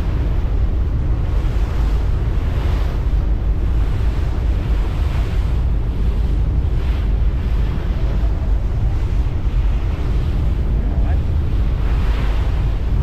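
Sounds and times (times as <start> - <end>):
rushing water: 0.0 - 13.0
wind buffeting microphone: 0.0 - 13.0.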